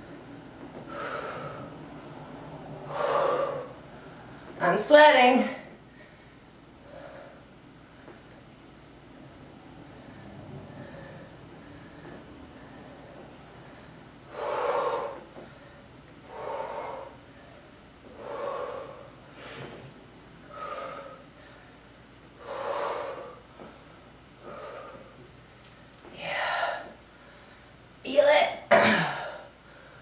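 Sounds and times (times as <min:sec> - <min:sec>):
woman breathing hard: 0:00.1 - 0:04.6, 0:05.6 - 0:08.4, 0:09.7 - 0:27.9, 0:29.0 - 0:30.0.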